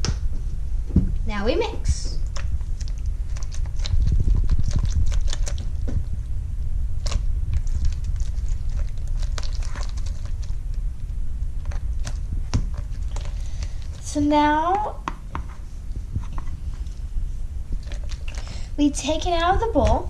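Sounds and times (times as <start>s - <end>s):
low rumble: 0.0s - 20.0s
slime squelching in a bowl: 1.3s - 6.3s, 7.0s - 20.0s.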